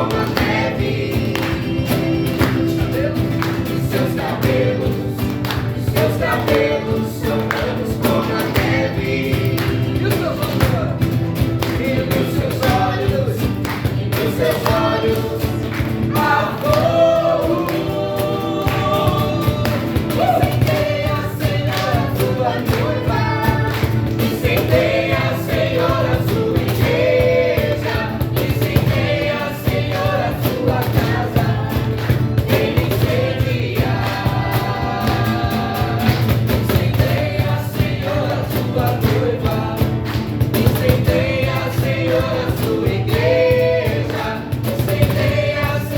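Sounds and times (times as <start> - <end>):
group singing gospel song: 0.0 - 45.9.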